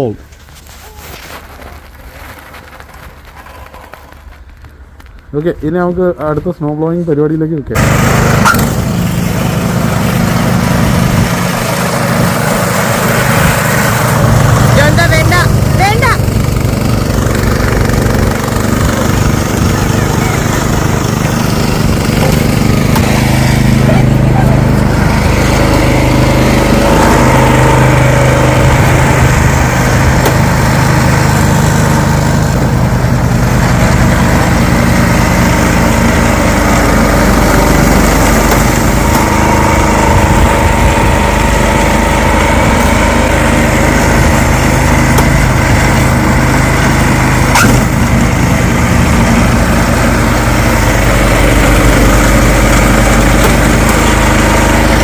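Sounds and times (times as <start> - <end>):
snow blower engine running: 0.0 - 5.1, 7.7 - 55.0.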